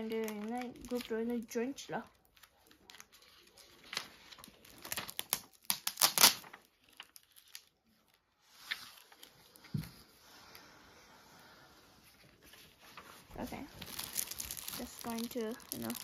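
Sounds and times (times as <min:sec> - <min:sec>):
gift wrapping crinkling: 0:00.0 - 0:09.8, 0:12.0 - 0:16.0.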